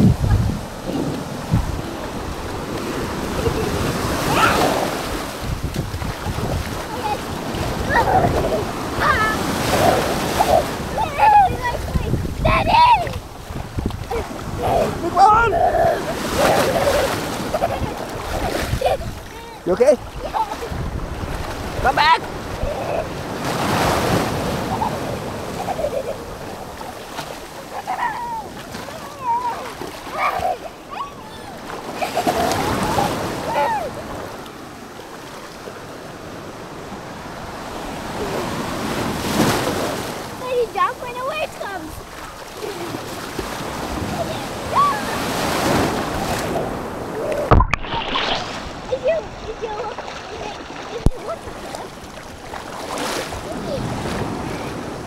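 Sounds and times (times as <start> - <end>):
wind buffeting microphone: 0.0 - 34.4, 36.3 - 55.0
waves washing onto beach: 0.0 - 55.0.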